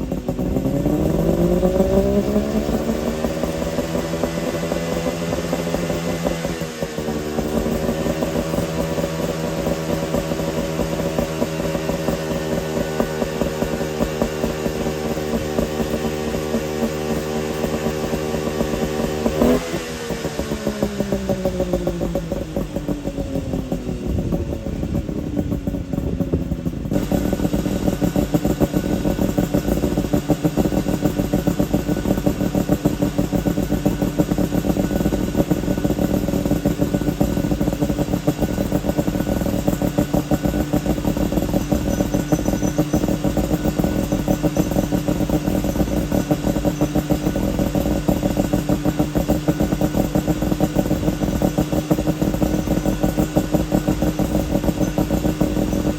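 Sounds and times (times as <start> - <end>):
two-stroke engine running: 0.0 - 55.9.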